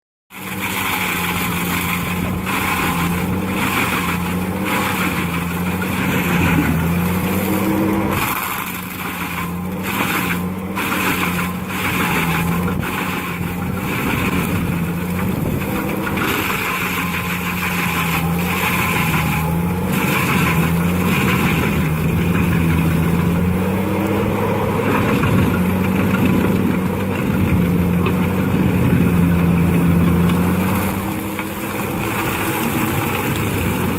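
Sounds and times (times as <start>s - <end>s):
diesel engine running: 0.3s - 33.9s.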